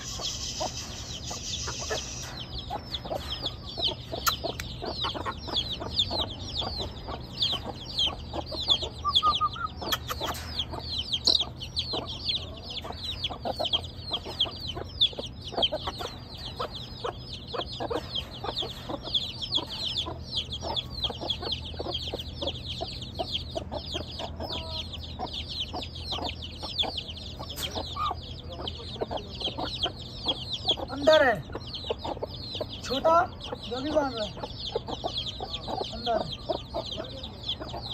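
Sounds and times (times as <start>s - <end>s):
chicks peeping: 0.0s - 37.9s
hens clucking: 0.0s - 37.9s.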